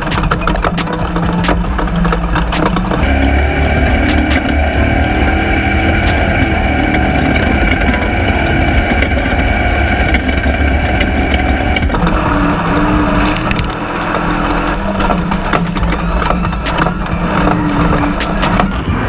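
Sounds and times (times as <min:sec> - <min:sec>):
race vehicle engine at high revs: 0:00.0 - 0:19.0.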